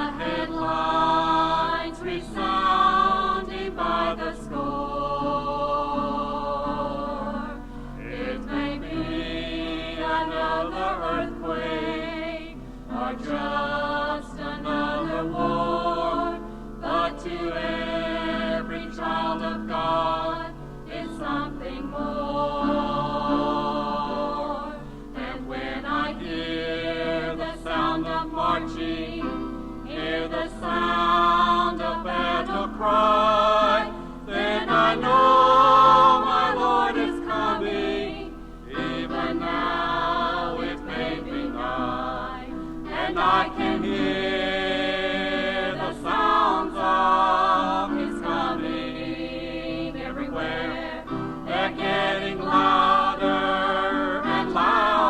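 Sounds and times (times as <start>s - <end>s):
musical accompaniment: 0.0s - 55.0s
vocal group singing gospel: 0.0s - 55.0s.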